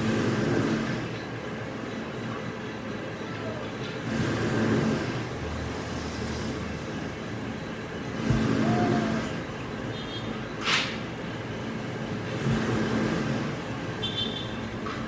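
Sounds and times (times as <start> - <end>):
heavy machine engine running: 0.0 - 2.2, 3.8 - 10.1, 11.2 - 15.0.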